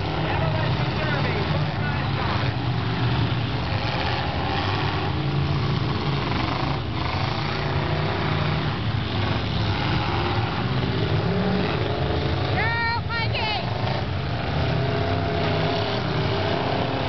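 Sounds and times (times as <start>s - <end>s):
car engines revving loudly: 0.0s - 17.0s.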